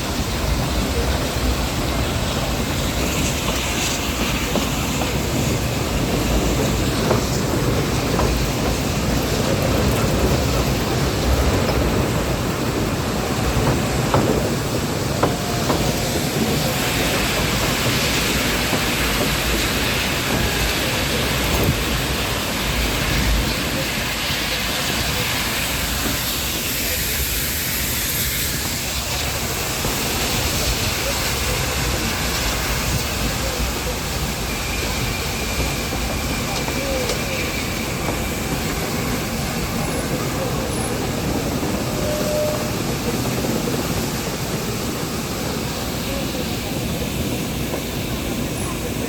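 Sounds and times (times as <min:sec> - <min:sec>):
train rushing along track: 0:00.0 - 0:49.0
voices: 0:00.1 - 0:49.0.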